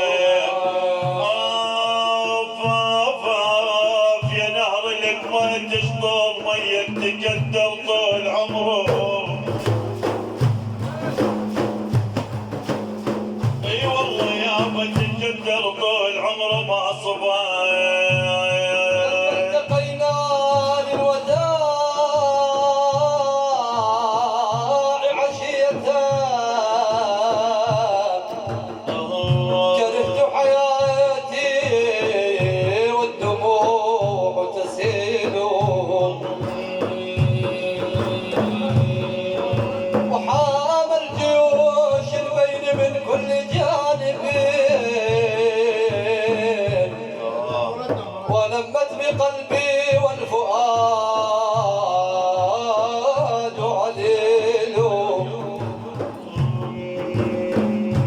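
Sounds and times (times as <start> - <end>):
hand drums beating: 0.0 - 58.0.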